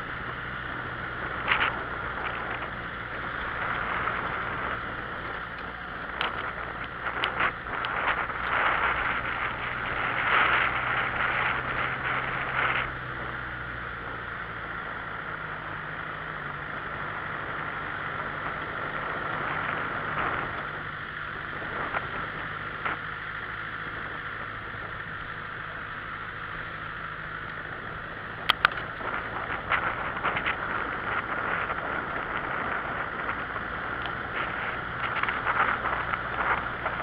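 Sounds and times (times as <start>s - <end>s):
rustling grass: 0.0s - 14.4s, 15.4s - 37.0s
steady hiss and low hum: 0.0s - 37.0s.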